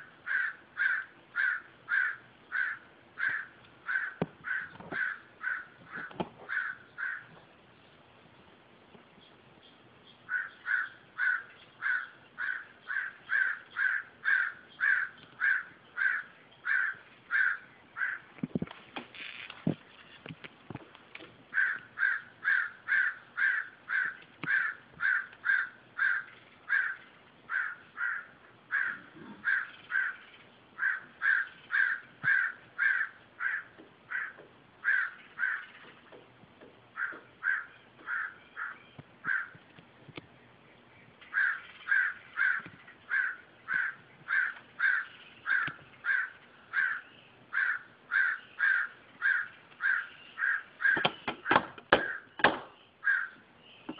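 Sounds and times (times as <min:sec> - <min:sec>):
crows cawing: 0:00.0 - 0:07.4, 0:10.3 - 0:18.4, 0:21.5 - 0:36.0, 0:36.9 - 0:39.6, 0:41.3 - 0:52.4, 0:53.0 - 0:53.4.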